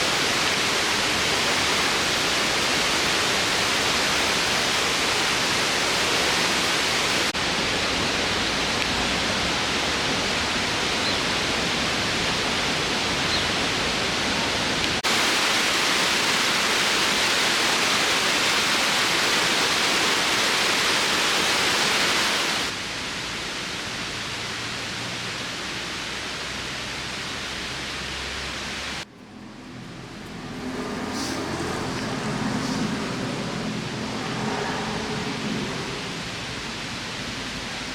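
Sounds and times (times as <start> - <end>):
waterfall roaring: 0.0 - 37.9.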